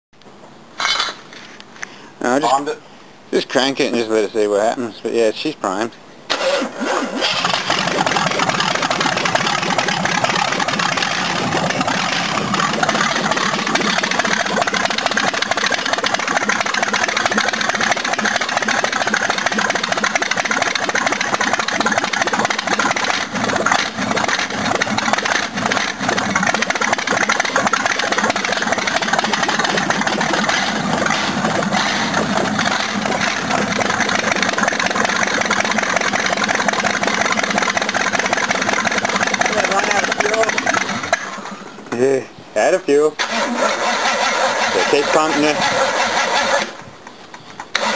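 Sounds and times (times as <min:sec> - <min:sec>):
engine cranking on starter: 0:06.3 - 0:41.7, 0:43.2 - 0:46.8.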